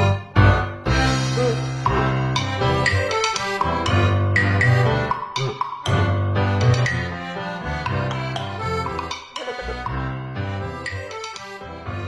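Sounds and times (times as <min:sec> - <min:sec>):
music with held low notes: 0:00.0 - 0:12.0.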